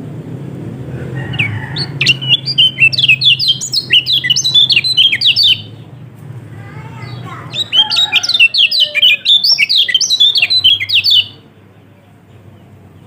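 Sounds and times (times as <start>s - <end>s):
steady low hum: 0.0s - 13.0s
bird singing chattering song: 1.2s - 6.1s, 6.7s - 13.0s.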